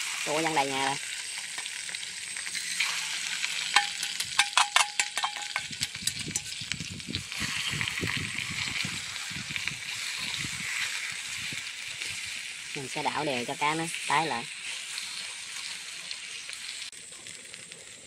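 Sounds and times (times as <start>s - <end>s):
fish sizzling in hot caramel: 0.0s - 18.0s.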